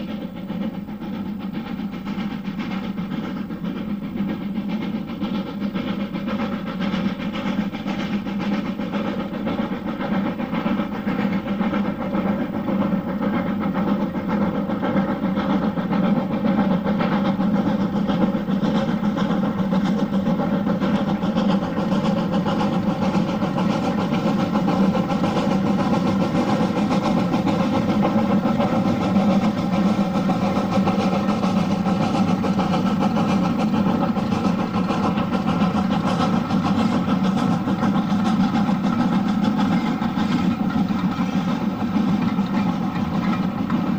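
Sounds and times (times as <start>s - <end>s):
train engine idling: 0.0s - 43.9s.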